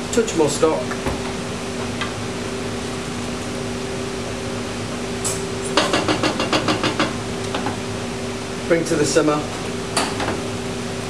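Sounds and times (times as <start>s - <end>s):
kitchen equipment hum: 0.0s - 11.0s.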